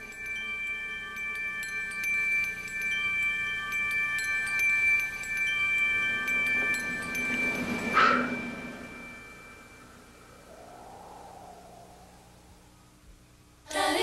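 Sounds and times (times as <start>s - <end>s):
light tinkling chime strikes: 0.0s - 12.0s
high ringing tone: 0.0s - 13.0s.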